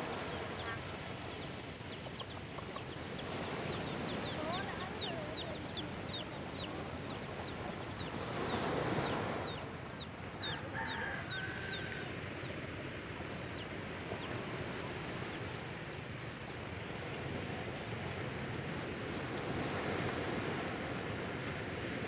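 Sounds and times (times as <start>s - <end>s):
birds chirping: 0.0s - 19.1s
long steady bird call: 0.0s - 20.9s.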